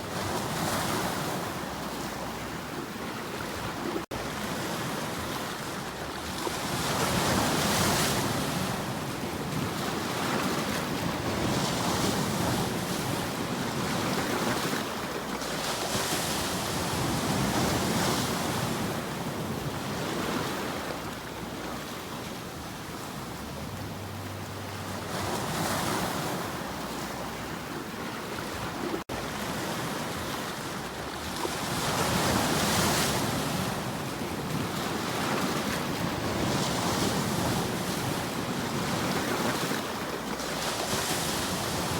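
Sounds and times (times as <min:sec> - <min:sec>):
waves breaking and washing in: 0:00.0 - 0:41.9.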